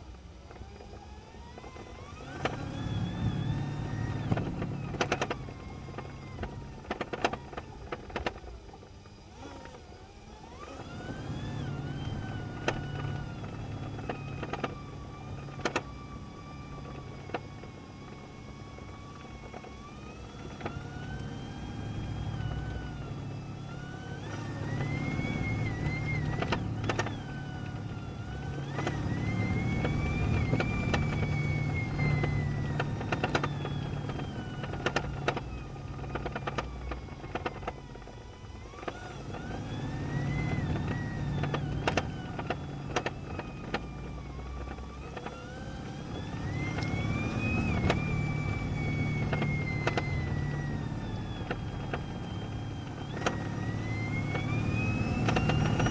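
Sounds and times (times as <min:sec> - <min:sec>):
hybrid car drivetrain whining: 0:00.0 - 0:55.9
light clicks: 0:10.4 - 0:55.9.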